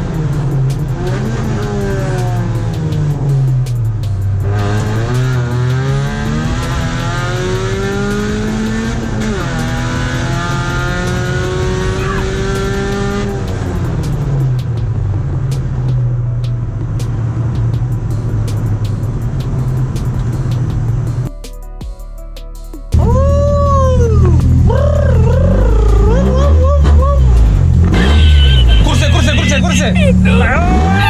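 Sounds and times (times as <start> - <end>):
car engine accelerating: 0.0 - 21.3, 23.0 - 31.0.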